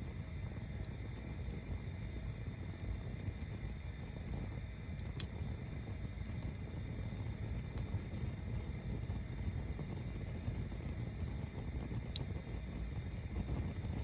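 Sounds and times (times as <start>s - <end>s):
bonfire rumbling: 0.0s - 14.0s
fire crackling pops: 0.0s - 14.0s.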